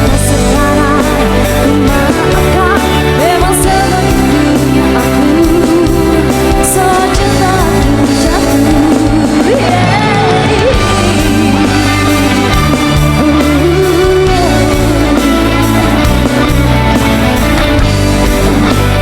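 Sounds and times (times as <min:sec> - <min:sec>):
live band playing: 0:00.0 - 0:19.0
sliding lead guitar melody: 0:00.0 - 0:19.0.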